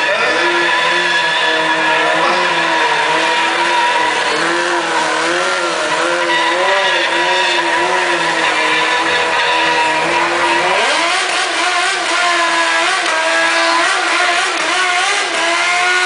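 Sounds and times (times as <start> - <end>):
motorcycle engine revving high: 0.0 - 16.0
tyre squealing on pavement: 0.0 - 16.0.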